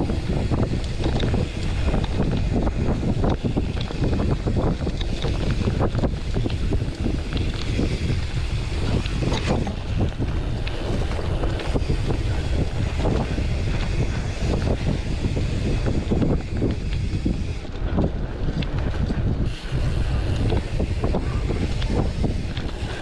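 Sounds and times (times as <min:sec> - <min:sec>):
bike rattles and knocks: 0:00.0 - 0:23.0
wind noise on microphone: 0:00.0 - 0:23.0.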